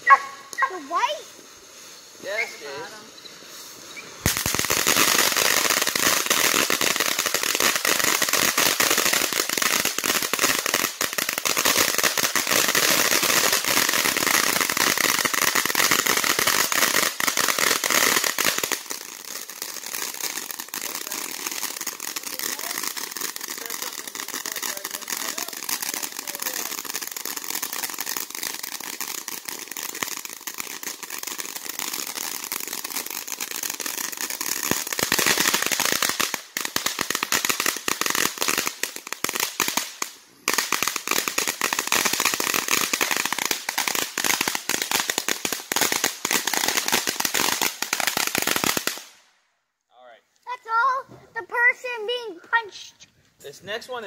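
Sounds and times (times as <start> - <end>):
firework fountain hissing: 0.0 - 49.3
firework crackling: 0.0 - 49.4, 50.5 - 54.0.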